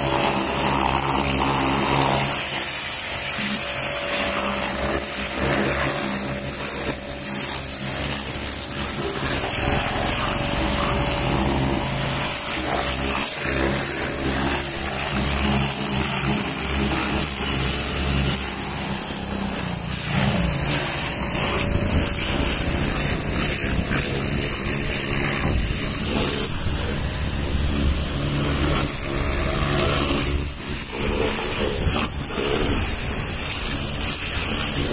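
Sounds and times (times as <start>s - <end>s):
pressure washer pump hum: 0.0s - 34.9s
water jet spraying car: 0.0s - 34.9s.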